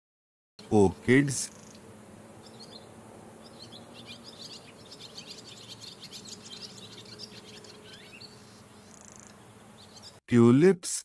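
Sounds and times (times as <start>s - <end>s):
small birds chirping: 0.6s - 10.2s.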